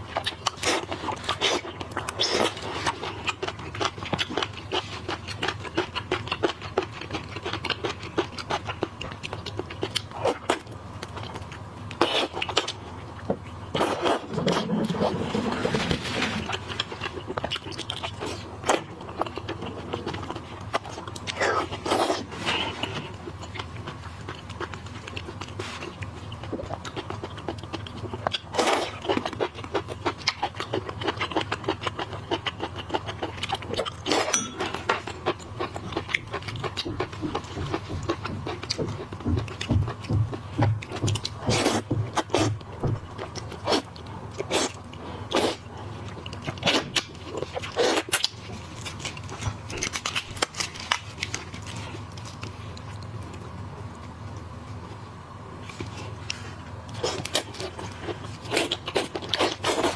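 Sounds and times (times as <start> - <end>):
wet chewing and smacking: 0.0 - 15.1, 16.4 - 54.8, 55.6 - 59.9.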